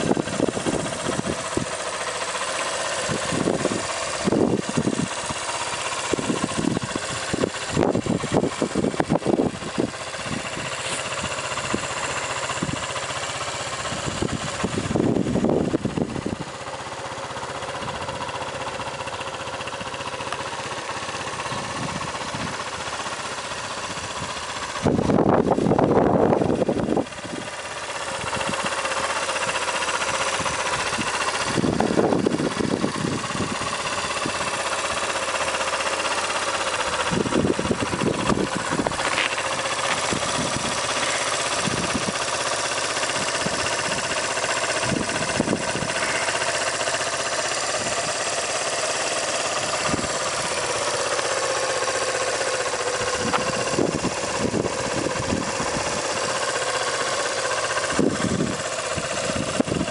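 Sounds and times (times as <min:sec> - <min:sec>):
motorbike engine idling: 0:00.0 - 0:59.9.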